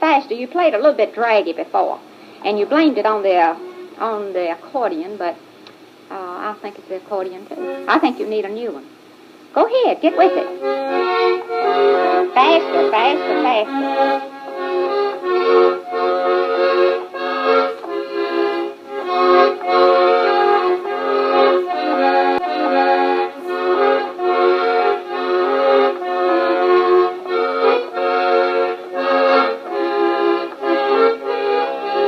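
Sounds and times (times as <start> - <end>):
accordion playing a lively tune: 0.8 - 5.3, 6.1 - 8.8, 9.6 - 32.0.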